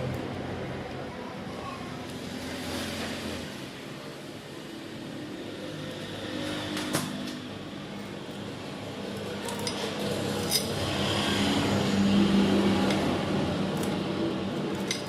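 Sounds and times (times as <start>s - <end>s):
garage background noise: 0.0s - 15.0s.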